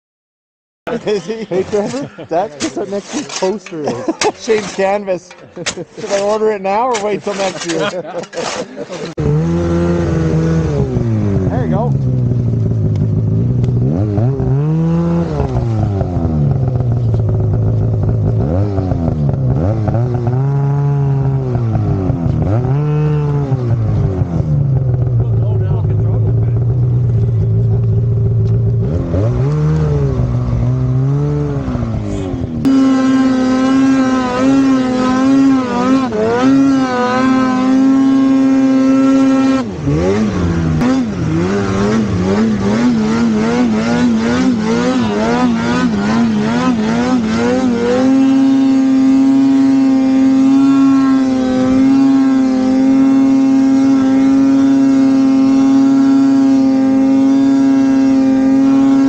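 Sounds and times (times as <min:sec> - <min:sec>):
snowmobile engine revving: 0:00.9 - 0:59.0.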